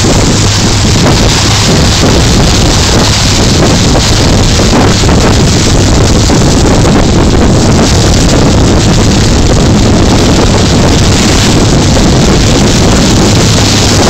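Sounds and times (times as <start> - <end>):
boat engine running: 0.0 - 14.0
water rushing along hull: 0.0 - 14.0
wind buffeting microphone: 0.0 - 14.0.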